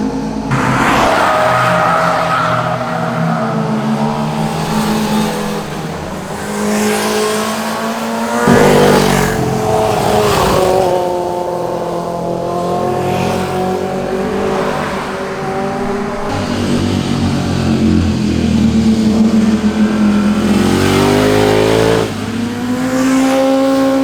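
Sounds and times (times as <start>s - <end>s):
motorcycle engines passing: 0.2s - 24.0s.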